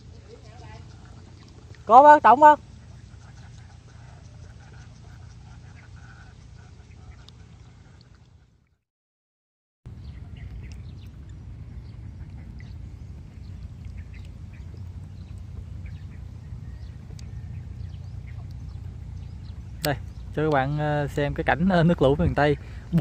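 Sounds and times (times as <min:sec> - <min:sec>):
low outdoor rumble: 0:00.0 - 0:08.8, 0:09.9 - 0:23.0.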